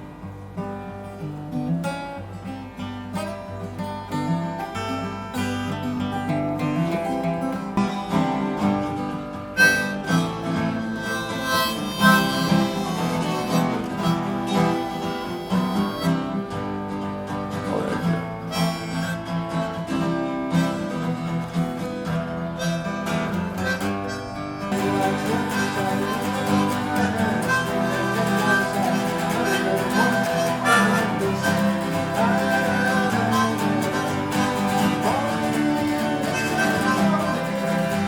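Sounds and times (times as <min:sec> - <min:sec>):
acoustic guitar strumming: 0:00.0 - 0:38.0
harmonica melody: 0:03.1 - 0:38.0.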